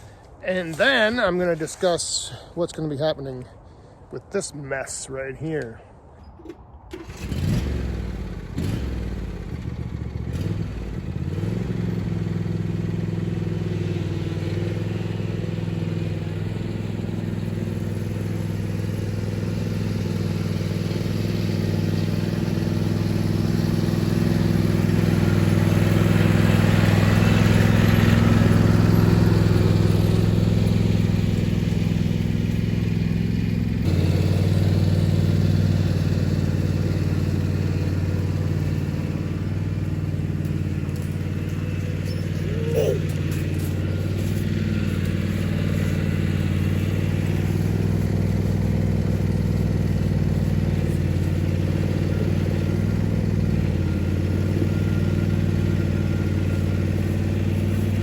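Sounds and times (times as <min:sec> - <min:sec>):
tractor engine running: 0:06.3 - 0:58.0.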